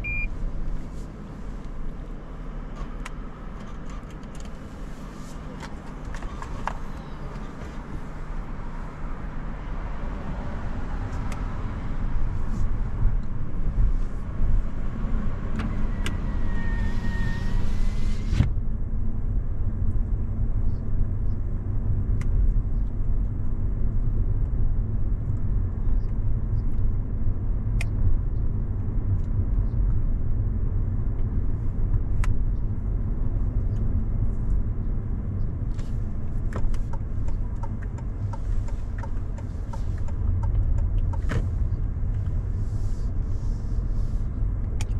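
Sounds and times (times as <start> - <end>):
car engine and road rumble: 0.0 - 44.9.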